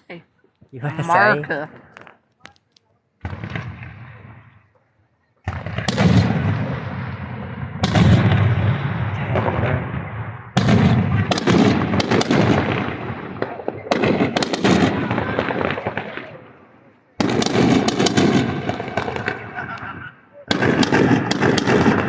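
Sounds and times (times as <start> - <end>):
fireworks crackling: 0.0 - 7.0, 10.6 - 22.0
fireworks booming: 3.2 - 4.8, 5.4 - 22.0.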